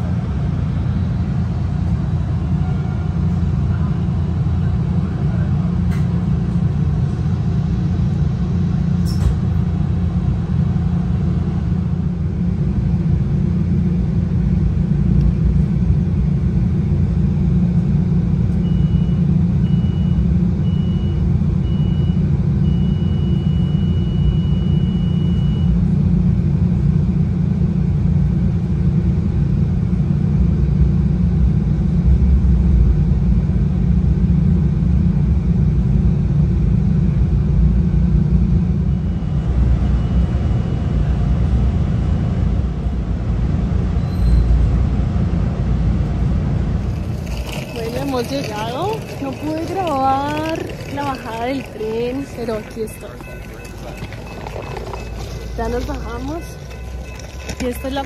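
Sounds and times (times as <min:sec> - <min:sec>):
train rumble from inside: 0:00.0 - 0:58.0.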